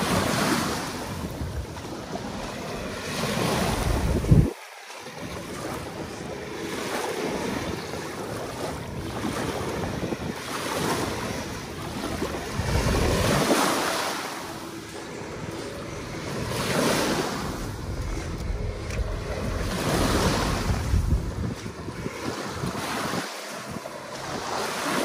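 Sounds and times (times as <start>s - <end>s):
sea waves washing onto shore: 0.0s - 25.0s
wind buffeting microphone: 0.0s - 25.0s.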